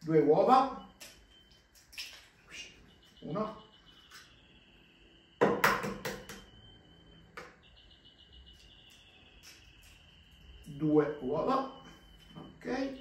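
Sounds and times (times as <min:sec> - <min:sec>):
faint high-pitched tone: 0:02.5 - 0:13.0.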